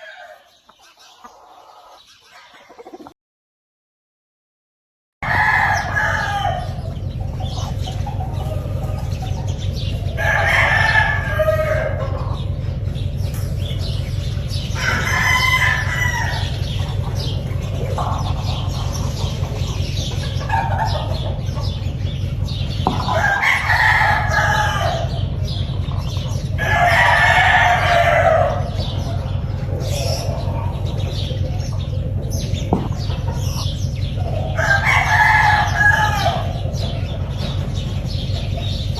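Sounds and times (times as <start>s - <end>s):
roosters crowing: 0.0s - 3.1s, 5.2s - 38.9s
steady low hum: 5.3s - 38.9s.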